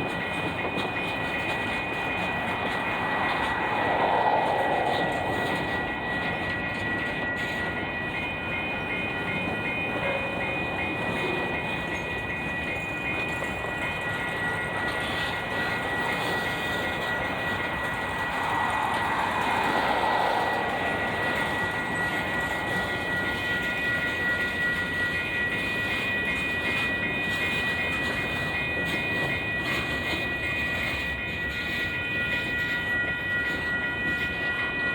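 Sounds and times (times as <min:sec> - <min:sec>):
freight train cars rolling: 0:00.0 - 0:34.9.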